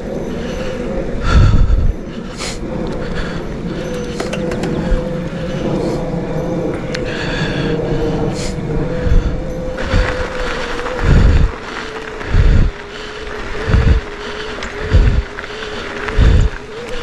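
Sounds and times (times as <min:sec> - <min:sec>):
bike tyre hum: 0:00.0 - 0:17.0
wind buffeting microphone: 0:00.0 - 0:17.0.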